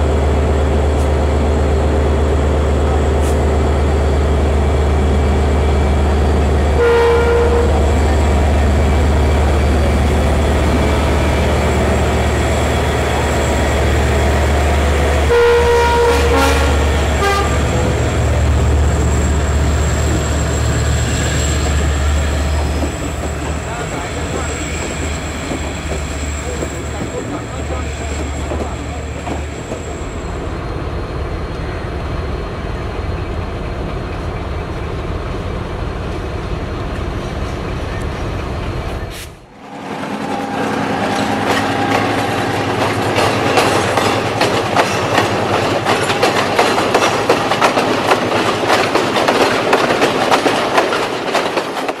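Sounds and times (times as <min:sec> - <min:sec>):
train wheel noise: 0:00.0 - 0:52.0.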